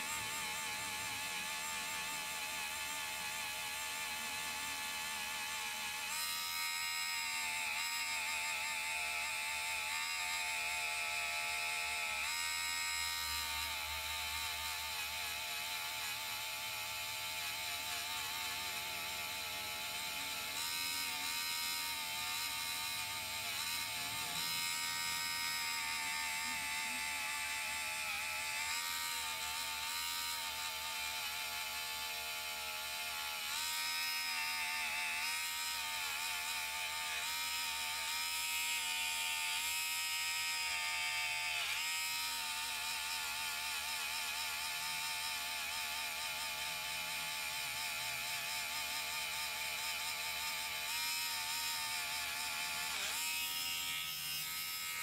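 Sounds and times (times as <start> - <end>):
rotary tool high whine: 0.0 - 55.0.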